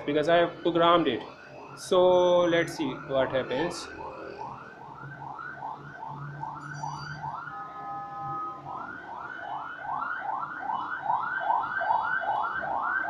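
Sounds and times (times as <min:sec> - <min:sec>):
siren yelping: 0:00.0 - 0:13.0
steady blaring siren tone: 0:00.0 - 0:13.0.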